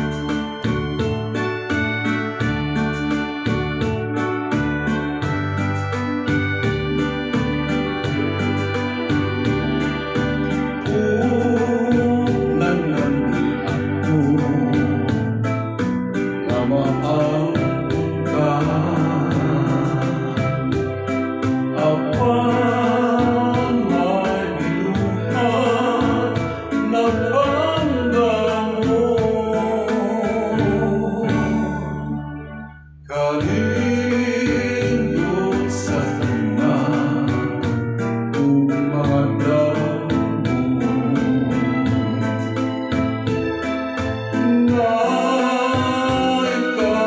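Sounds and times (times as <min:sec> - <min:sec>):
keyboard backing track with beat: 0:00.0 - 0:47.0
man singing into a microphone: 0:07.2 - 0:43.2, 0:44.3 - 0:47.0.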